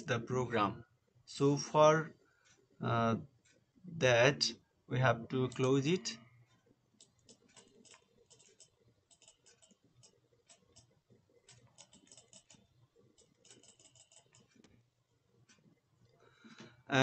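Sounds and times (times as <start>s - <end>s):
soft irregular clicks: 0.8s - 16.9s.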